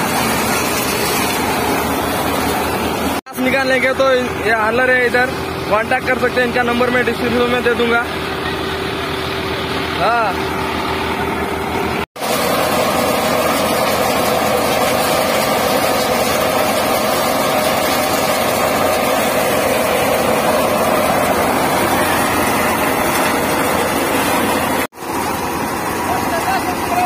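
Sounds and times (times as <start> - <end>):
thresher mechanical drone: 0.0 - 27.0.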